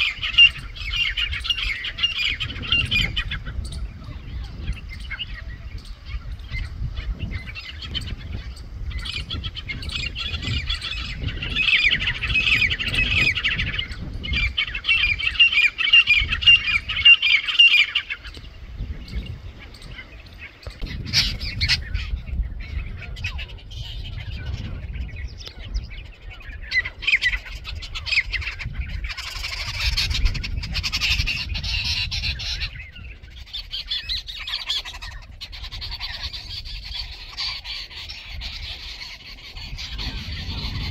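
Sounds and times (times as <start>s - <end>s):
birds squawking: 0.0s - 40.9s.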